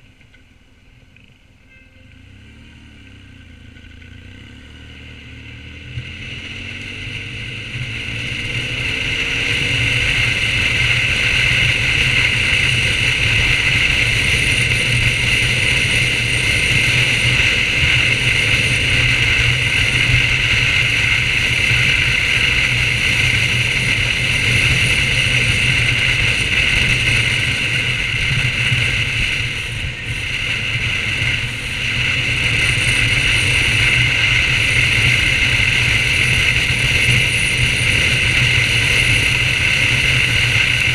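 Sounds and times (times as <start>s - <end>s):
motorcycle engine accelerating: 0.0s - 40.9s
wind noise: 6.9s - 40.9s.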